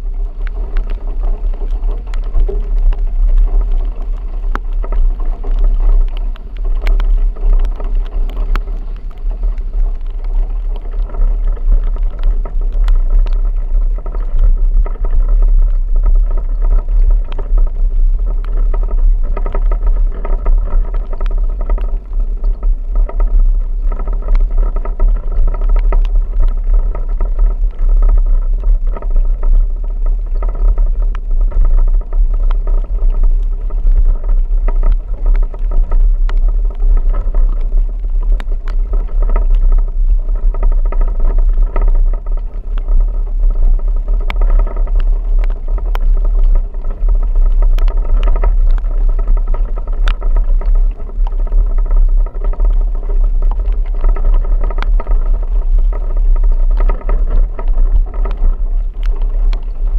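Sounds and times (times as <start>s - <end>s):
vehicle driving with low rumble: 0.0s - 59.9s.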